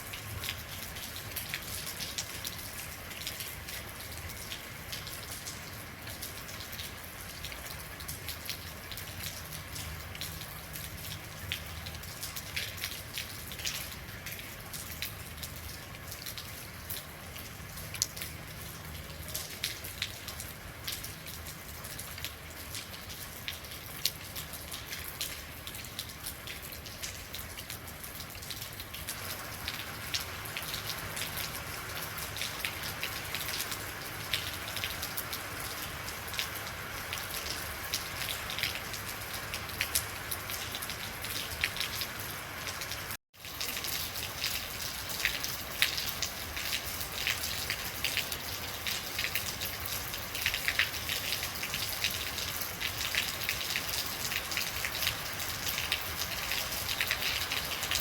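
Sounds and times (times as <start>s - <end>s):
rain drops on hard surface: 0.0s - 58.0s.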